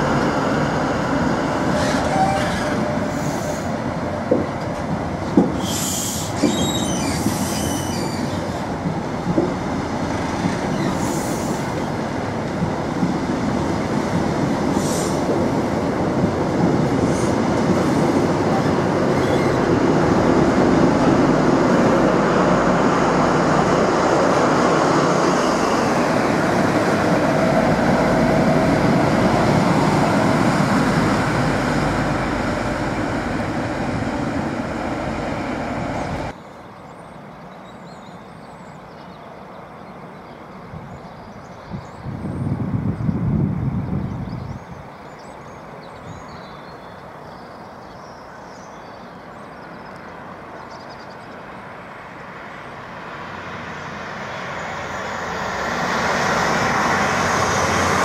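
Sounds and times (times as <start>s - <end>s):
train passing at speed: 0.0s - 58.0s.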